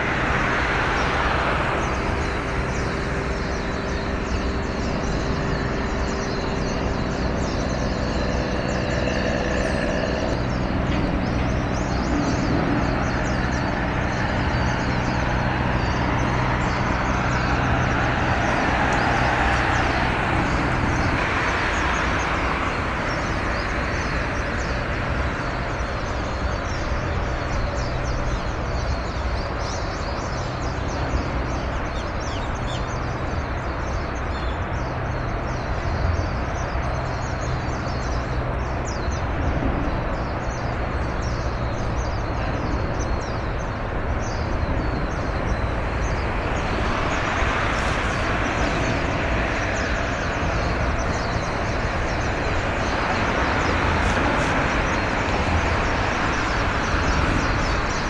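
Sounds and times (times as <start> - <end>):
vehicle passing: 0.0 - 27.3, 35.9 - 58.0
distant traffic: 0.0 - 58.0
low engine drone: 0.0 - 58.0.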